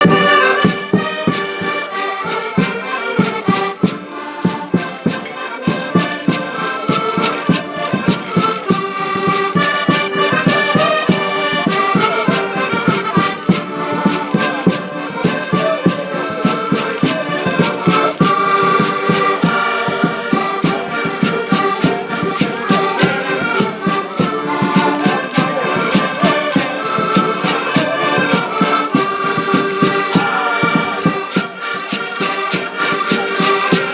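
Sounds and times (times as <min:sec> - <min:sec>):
live band playing popular music: 0:00.0 - 0:33.9.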